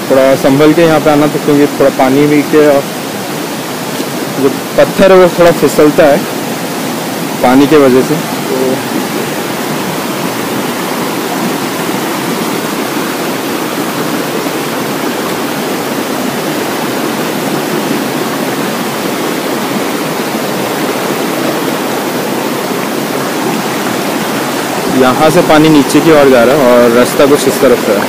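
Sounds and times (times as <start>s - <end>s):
stream cascading over boulders: 0.0s - 28.0s.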